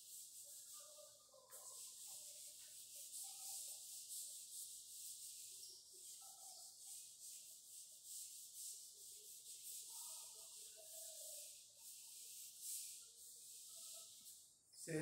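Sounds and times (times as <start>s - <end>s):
duster rubbing on chalkboard: 0.0s - 14.8s.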